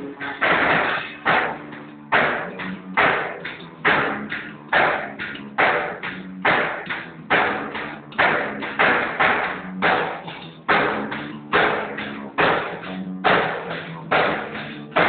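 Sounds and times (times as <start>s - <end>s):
electric bass low notes: 0.0s - 15.0s
drum and cymbal hits: 0.2s - 15.0s.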